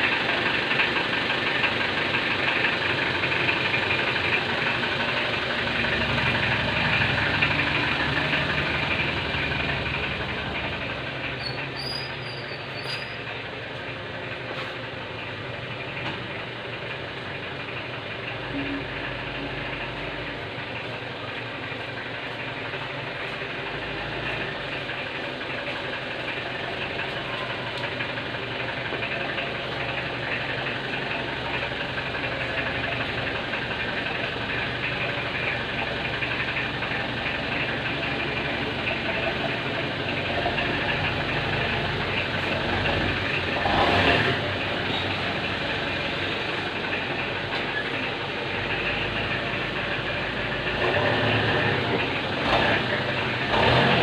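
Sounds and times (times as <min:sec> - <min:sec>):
engine running with rapid knocking: 0:00.0 - 0:54.0.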